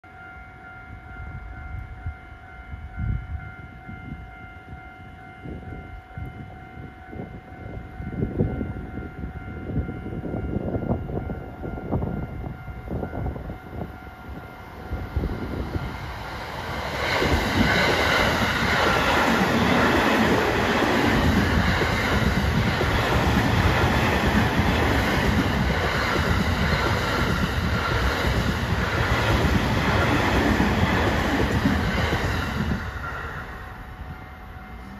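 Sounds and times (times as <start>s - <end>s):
rhythmic train clatter: 0.0s - 34.9s
electric train passing: 0.1s - 34.9s.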